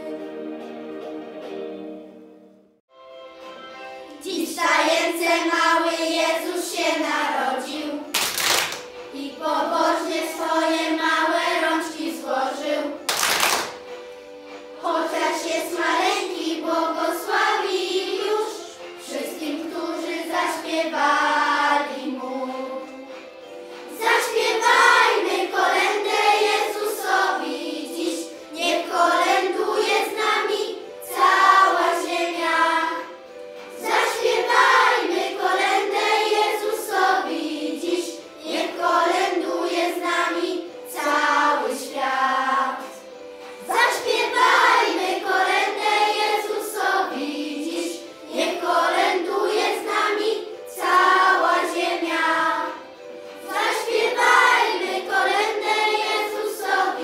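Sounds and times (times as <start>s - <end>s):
children's choir singing a carol: 0.0s - 2.0s, 4.0s - 57.0s.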